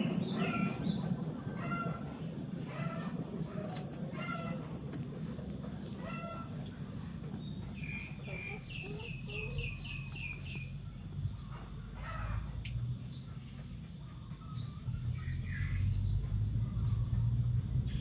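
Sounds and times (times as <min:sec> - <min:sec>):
birds chirping: 0:00.0 - 0:18.0
low steady rumble: 0:00.0 - 0:18.0.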